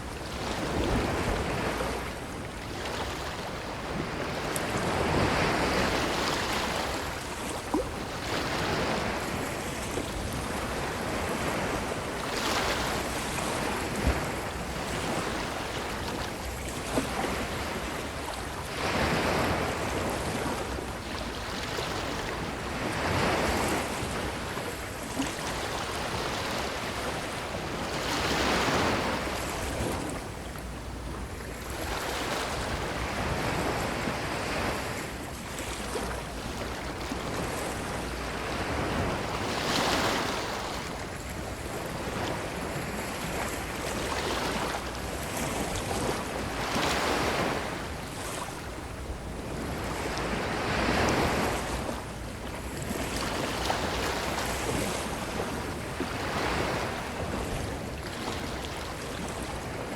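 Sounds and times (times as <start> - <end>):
ocean waves breaking on a beach: 0.0 - 59.9.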